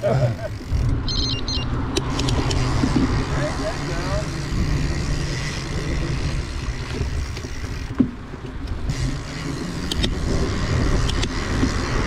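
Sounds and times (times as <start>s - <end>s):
bicycle tyres rolling on pavement: 0.0s - 12.0s
wind buffeting microphone: 0.0s - 12.0s.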